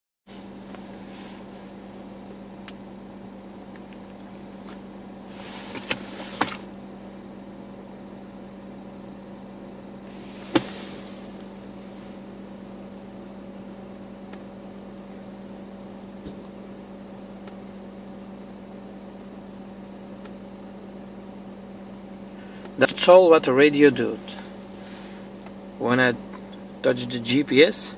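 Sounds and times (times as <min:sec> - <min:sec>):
steady low hum: 0:00.3 - 0:27.9.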